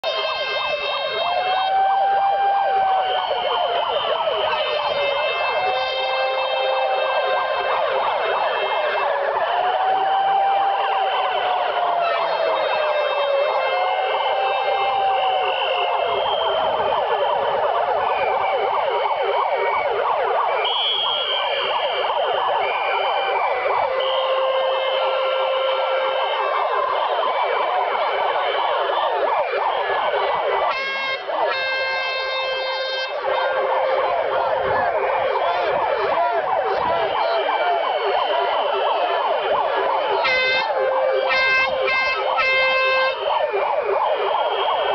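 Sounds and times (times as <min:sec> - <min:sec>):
megaphone sirens wailing: 0:00.0 - 0:44.9.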